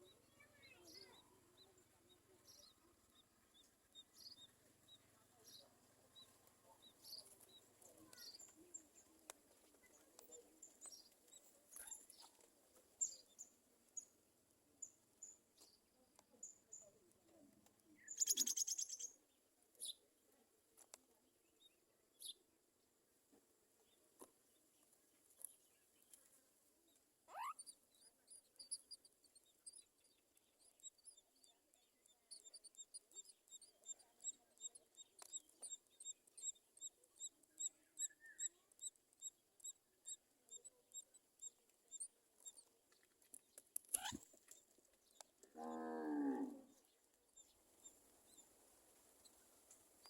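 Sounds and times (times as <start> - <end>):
myna birds chirping: 0.0 - 22.5, 23.8 - 50.0.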